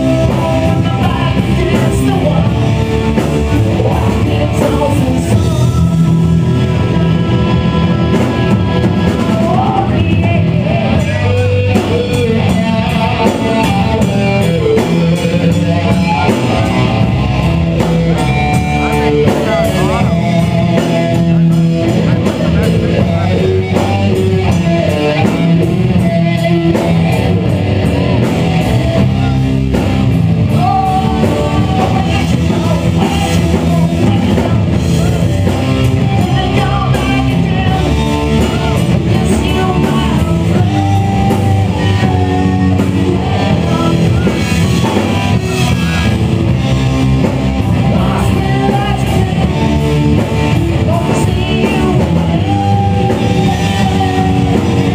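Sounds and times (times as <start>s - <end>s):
drum kit: 0.0s - 54.9s
electric guitar: 0.0s - 54.9s
person singing: 0.0s - 54.9s.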